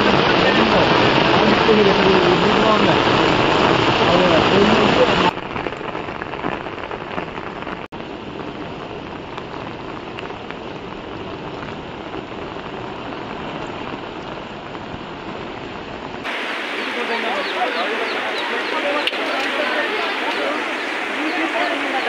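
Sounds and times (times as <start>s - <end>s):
heavy rain: 0.0s - 22.0s
rushing floodwater: 0.0s - 22.0s.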